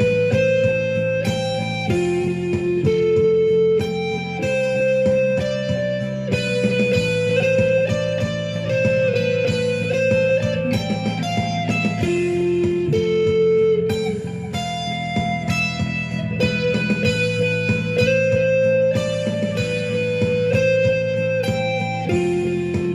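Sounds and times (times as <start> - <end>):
bass and chordal backing: 0.0 - 22.9
electric guitar melody: 0.0 - 22.9.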